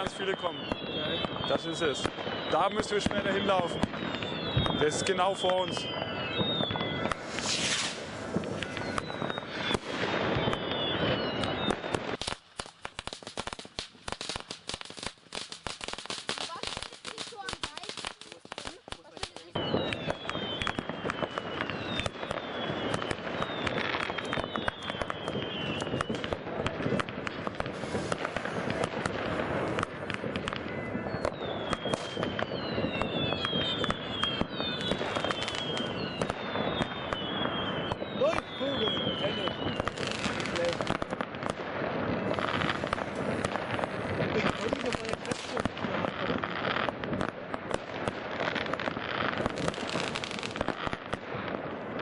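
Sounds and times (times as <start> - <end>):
firework bangs and whistles: 0.0 - 52.0
firework sparks crackling: 0.0 - 52.0.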